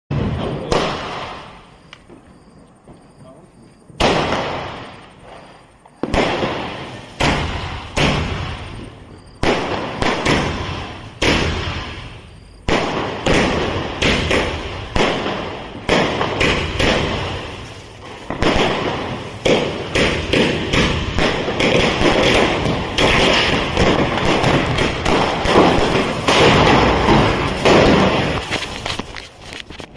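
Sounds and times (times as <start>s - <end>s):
firecrackers banging: 0.1s - 29.9s.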